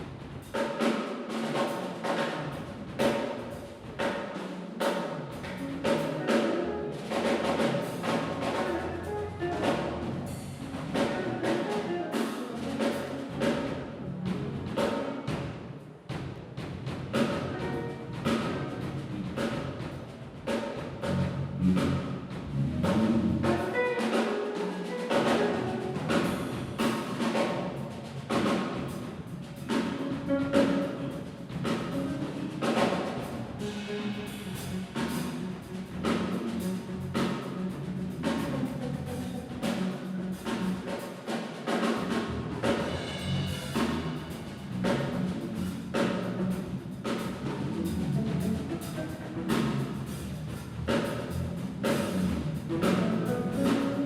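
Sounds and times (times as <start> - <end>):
drum kit solo: 0.0 - 54.0.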